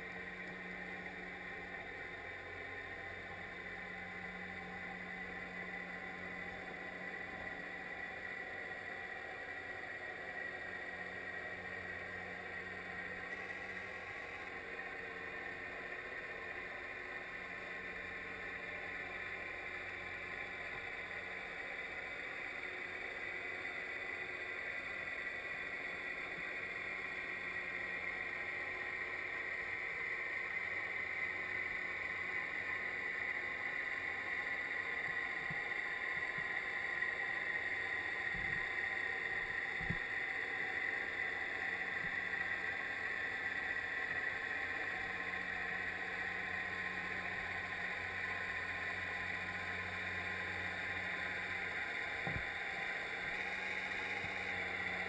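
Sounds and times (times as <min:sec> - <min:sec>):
underwater boat motor whine: 0:00.0 - 0:55.0.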